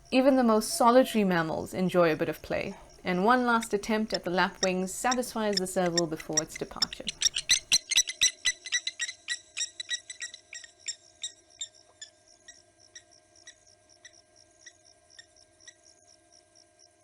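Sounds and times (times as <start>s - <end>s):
lapwing metallic alarm calls: 0.0s - 14.2s
faint steady hum: 0.0s - 17.0s.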